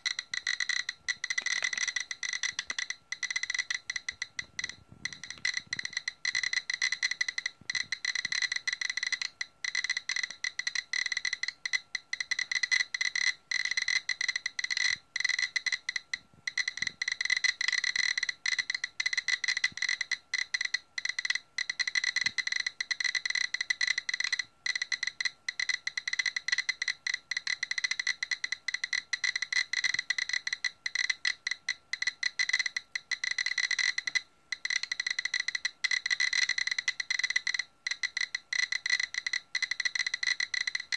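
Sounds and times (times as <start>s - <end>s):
geiger counter clicking: 0.0s - 40.9s.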